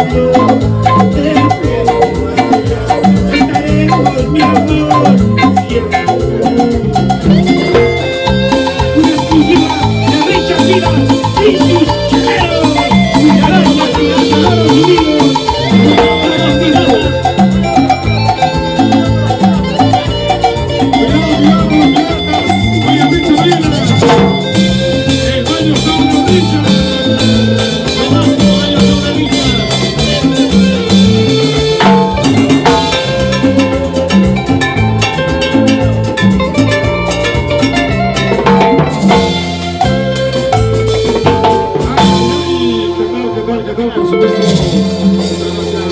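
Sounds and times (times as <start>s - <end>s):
band playing latin dance music: 0.0s - 45.9s.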